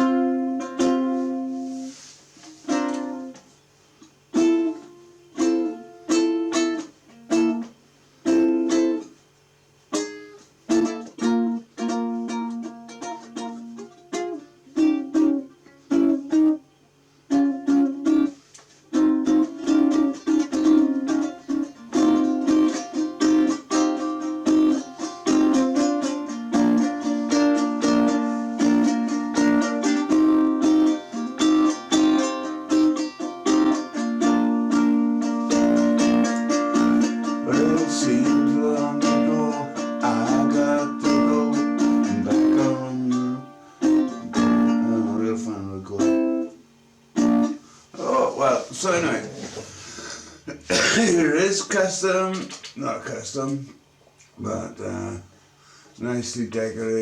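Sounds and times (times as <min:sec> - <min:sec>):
ukulele chord strumming: 0:00.0 - 0:03.4, 0:04.1 - 0:09.2, 0:09.9 - 0:16.7, 0:17.3 - 0:49.6
faint low hum: 0:00.0 - 0:57.0.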